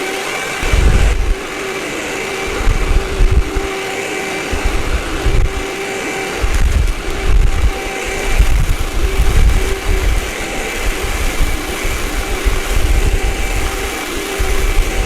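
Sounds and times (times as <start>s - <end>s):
vacuum cleaner motor whine: 0.0s - 15.0s
low rumbling: 0.6s - 15.0s.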